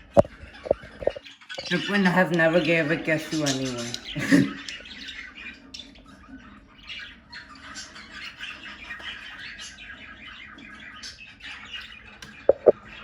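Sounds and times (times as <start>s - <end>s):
budgerigars chirping and warbling: 0.0s - 13.0s.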